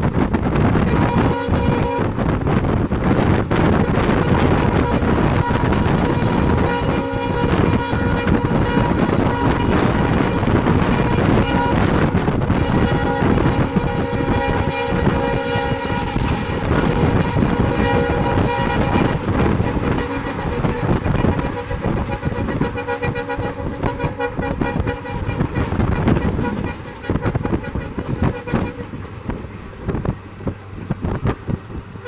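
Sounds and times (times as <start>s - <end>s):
train rumbling and clattering: 0.0s - 32.0s
locomotive air horn chord: 0.6s - 2.7s, 3.5s - 30.7s.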